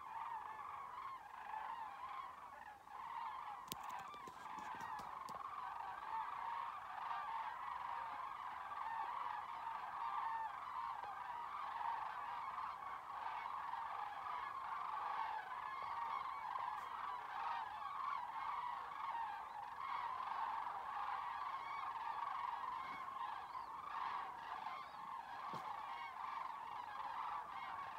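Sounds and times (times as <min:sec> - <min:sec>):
flock of birds calling: 0:00.0 - 0:27.9.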